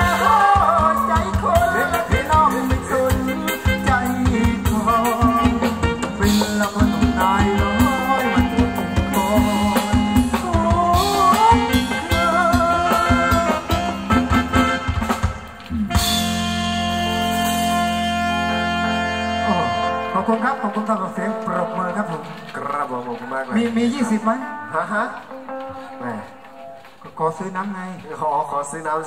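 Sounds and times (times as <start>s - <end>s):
drum kit beat: 0.0s - 24.3s
live band playing dance music: 0.0s - 29.0s.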